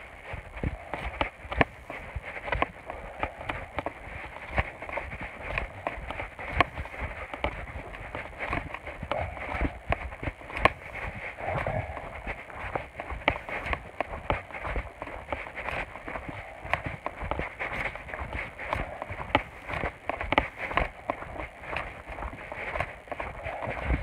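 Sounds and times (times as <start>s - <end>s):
footsteps in dry grass: 0.0s - 24.0s
grass rustling: 0.0s - 24.0s.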